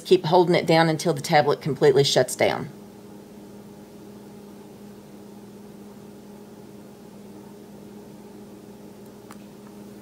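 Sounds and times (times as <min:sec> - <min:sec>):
low hum with faint hiss: 0:00.0 - 0:10.0.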